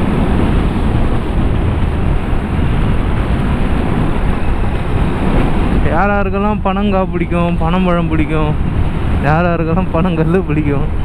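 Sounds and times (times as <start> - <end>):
motorcycle road noise: 0.0 - 11.0
wind buffeting microphone: 0.0 - 11.0.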